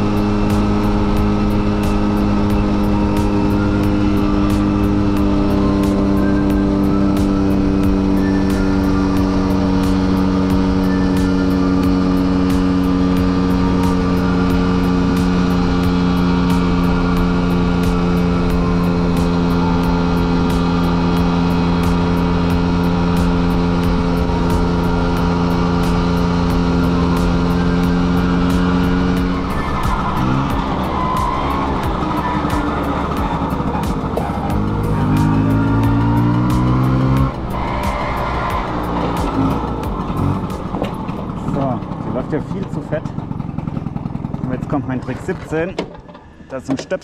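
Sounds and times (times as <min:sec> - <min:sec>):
scooter engine running: 0:00.0 - 0:47.0.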